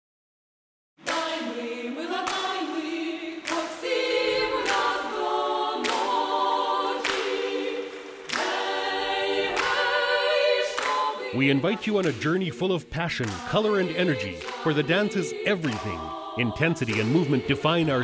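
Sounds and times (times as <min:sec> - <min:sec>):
choir singing sustained chords: 0:01.0 - 0:18.0.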